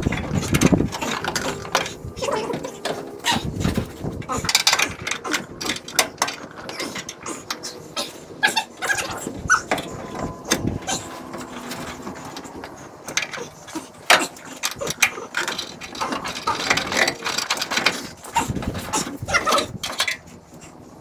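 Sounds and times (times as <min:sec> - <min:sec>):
hand tools clicking and rattling: 0:00.0 - 0:21.0.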